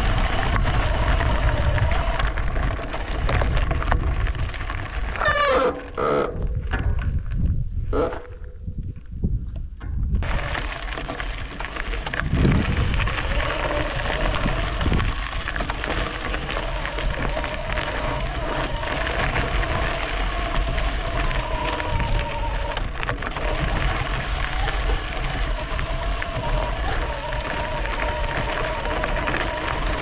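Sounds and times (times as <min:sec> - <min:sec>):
tyre noise: 0:00.0 - 0:30.0
wind on microphone: 0:00.0 - 0:30.0.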